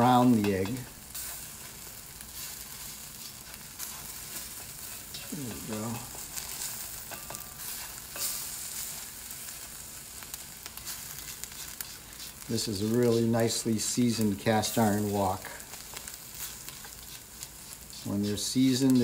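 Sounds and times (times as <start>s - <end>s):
egg sizzling in oil: 0.0s - 19.0s
spatula scraping and tapping wok: 0.0s - 19.0s.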